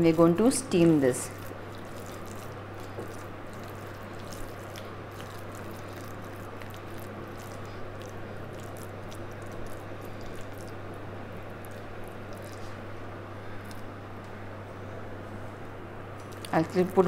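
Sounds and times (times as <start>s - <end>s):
hands kneading wet dough: 0.0s - 14.0s, 16.2s - 17.0s
steady low hum: 0.0s - 17.0s.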